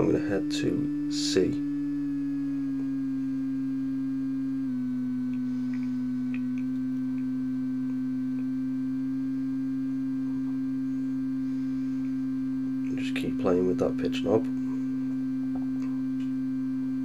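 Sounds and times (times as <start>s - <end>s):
droning electronic bleep: 0.0s - 17.0s.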